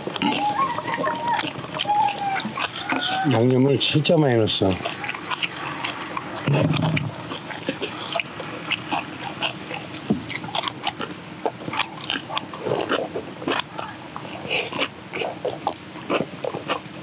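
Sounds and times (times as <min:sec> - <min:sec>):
chewing and smacking: 0:00.0 - 0:04.0, 0:04.6 - 0:17.0.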